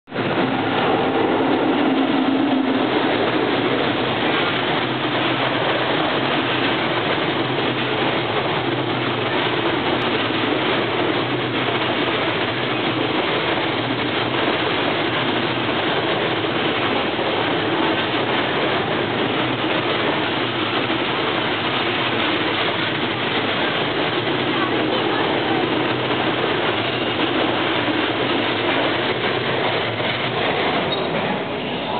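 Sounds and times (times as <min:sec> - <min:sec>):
freight train wheels on rails: 0:00.0 - 0:31.9.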